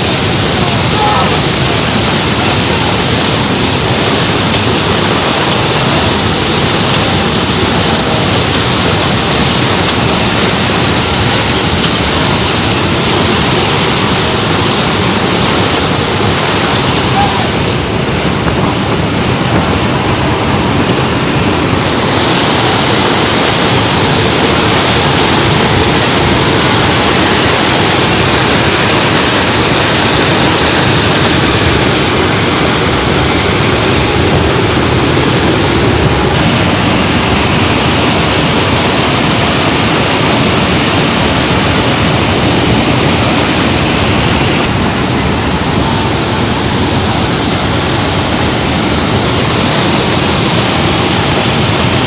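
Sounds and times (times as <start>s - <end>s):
airplane cabin engine roar: 0.0s - 52.0s.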